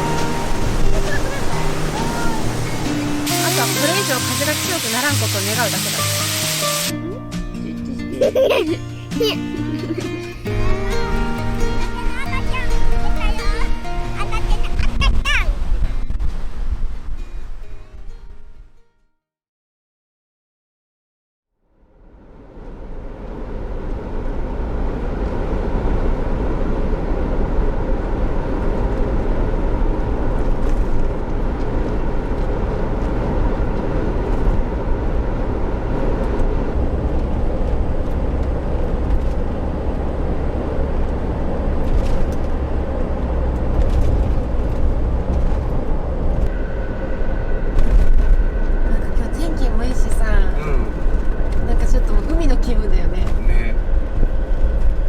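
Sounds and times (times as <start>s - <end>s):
vehicle engine rumbling: 0.0s - 18.1s, 21.8s - 55.0s.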